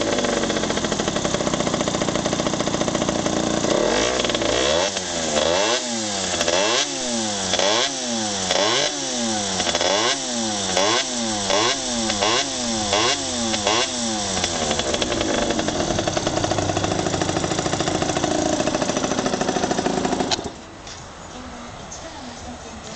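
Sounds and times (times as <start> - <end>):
two-stroke engine revving and idling: 0.0 - 20.7.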